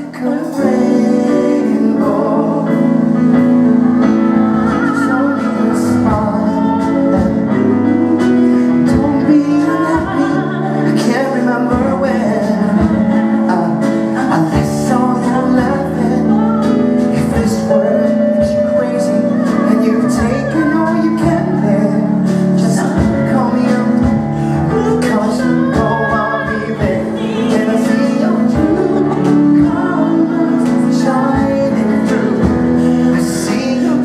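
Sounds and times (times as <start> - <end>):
slow song with singing: 0.0 - 34.0.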